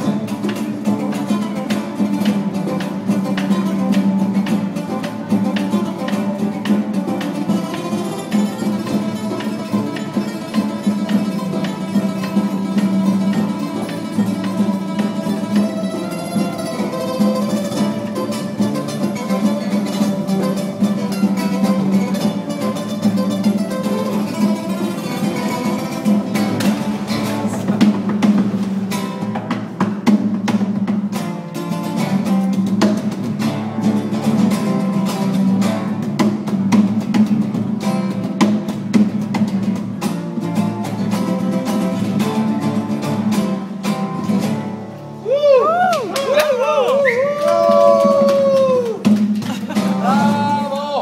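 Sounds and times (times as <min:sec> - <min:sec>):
acoustic guitar playing: 0:00.0 - 0:51.0.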